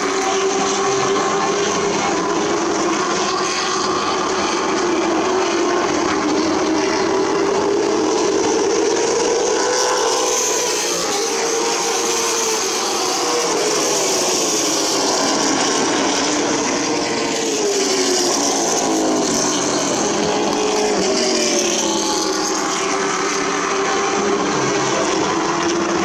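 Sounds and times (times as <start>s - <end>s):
race car engines passing: 0.0s - 26.0s.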